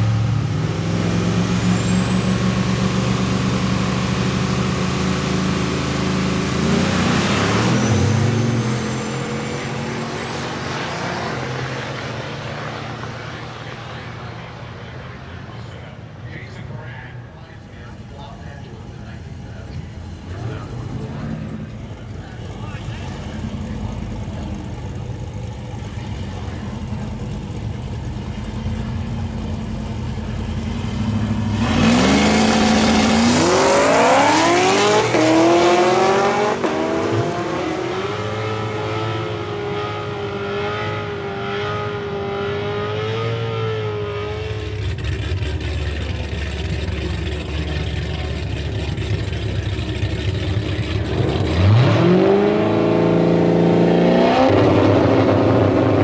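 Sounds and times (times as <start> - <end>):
engine revving: 0.0 - 13.8, 17.8 - 56.0
car engines idling: 0.0 - 56.0
race car accelerating: 0.0 - 56.0.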